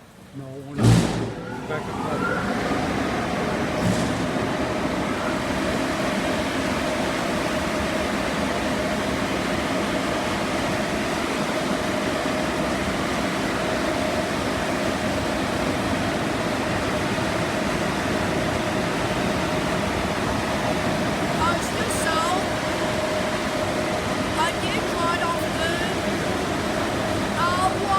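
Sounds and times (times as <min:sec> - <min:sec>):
constant hum: 0:00.0 - 0:27.9
car wash rushing noise: 0:00.8 - 0:27.9.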